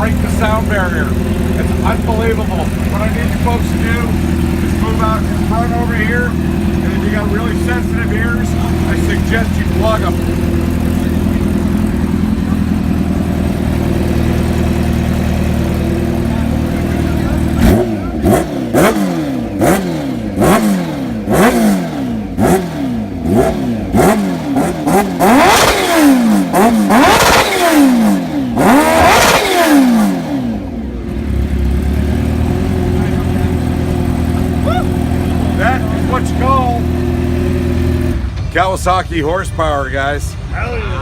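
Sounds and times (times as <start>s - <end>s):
motorcycle engine idling: 0.0s - 38.6s
motorcycle engine revving: 0.0s - 38.6s.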